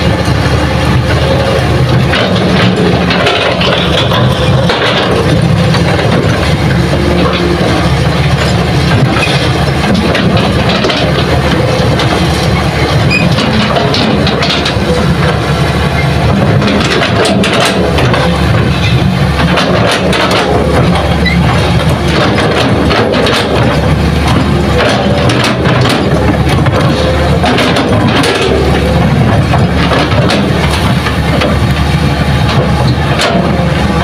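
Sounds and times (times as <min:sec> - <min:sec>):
excavator diesel engine running: 0:00.0 - 0:34.0
soil and rock clattering: 0:00.0 - 0:34.0.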